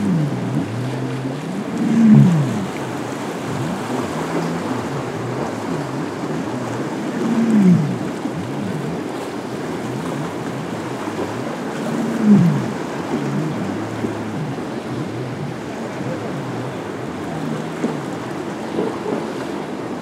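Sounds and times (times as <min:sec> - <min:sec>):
boat engines running: 0:00.0 - 0:20.0
waves: 0:00.0 - 0:20.0.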